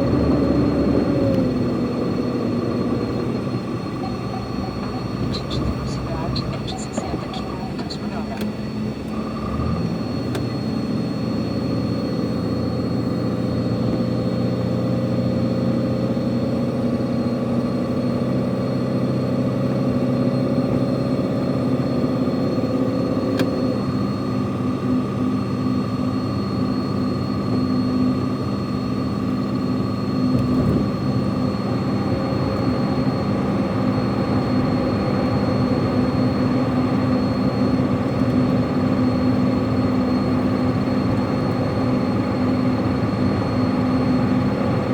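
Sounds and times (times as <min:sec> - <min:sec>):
truck engine drone with whine: 0:00.0 - 0:44.9.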